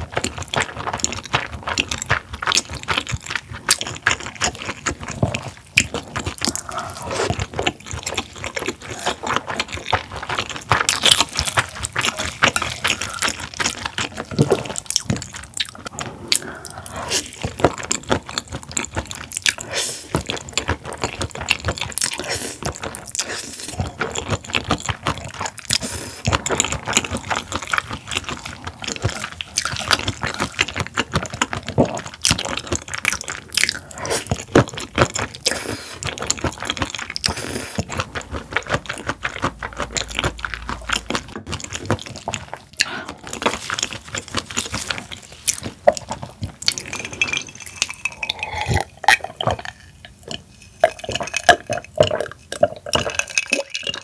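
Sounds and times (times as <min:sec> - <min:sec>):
wet chewing sounds: 0:00.0 - 0:54.0.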